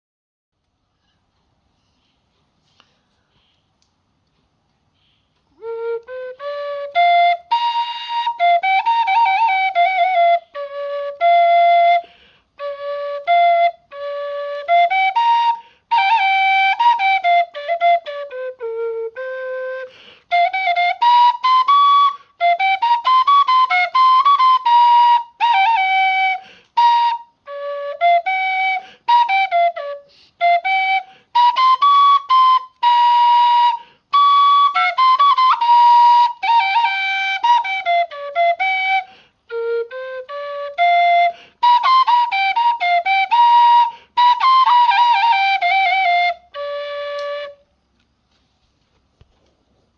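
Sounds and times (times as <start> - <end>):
bamboo flute melody: 5.5 - 47.7.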